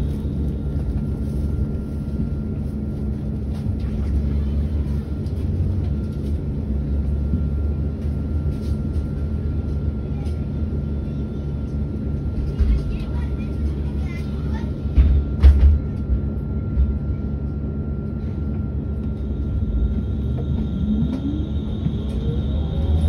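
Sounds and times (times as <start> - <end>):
bus systems low drone: 0.0 - 23.0.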